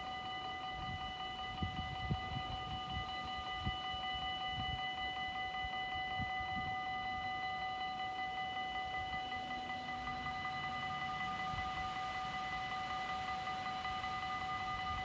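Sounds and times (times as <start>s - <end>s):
level-crossing warning bell ringing: 0.0s - 15.0s.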